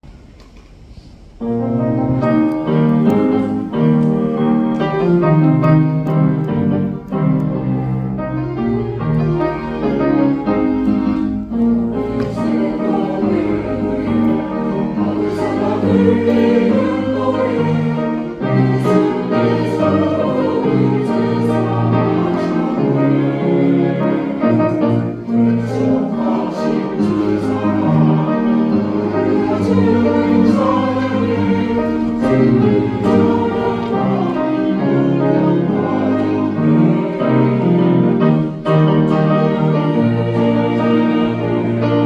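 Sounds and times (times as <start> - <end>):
choir singing a hymn: 1.4 - 42.0
piano accompaniment: 1.4 - 42.0.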